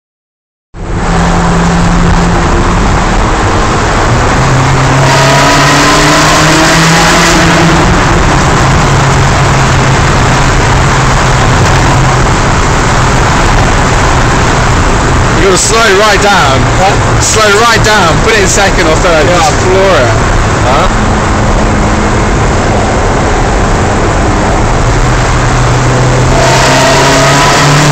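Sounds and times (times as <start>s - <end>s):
car engine running loud: 0.7s - 27.9s
wind and road noise: 0.7s - 27.9s.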